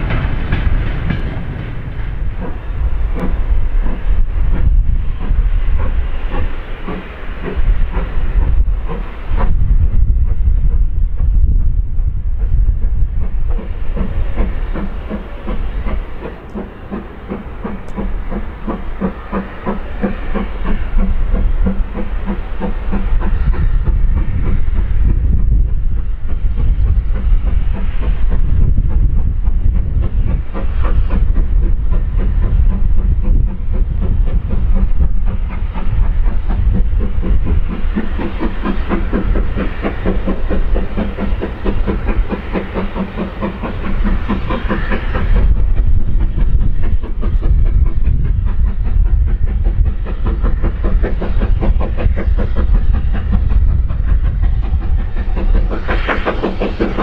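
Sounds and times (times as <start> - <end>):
steam train running by: 0.0 - 57.0.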